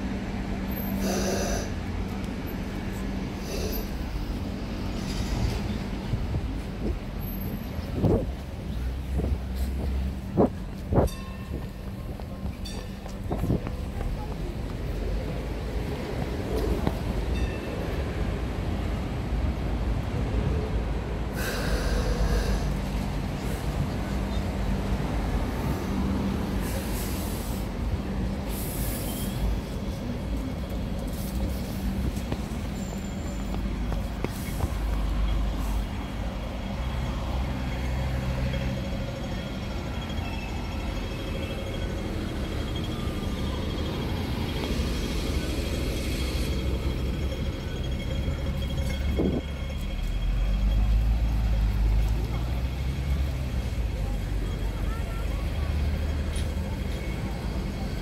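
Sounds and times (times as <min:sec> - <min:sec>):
tram hum and rumble: 0:00.0 - 0:58.0.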